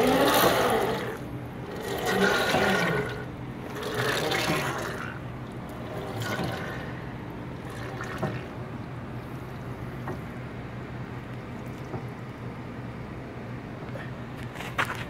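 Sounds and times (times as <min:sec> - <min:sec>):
gears meshing with low hum: 0:00.0 - 0:15.0.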